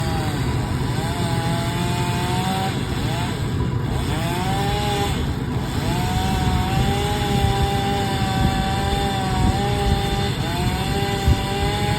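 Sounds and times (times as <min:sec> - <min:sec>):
petrol engine running hard: 0:00.0 - 0:11.9.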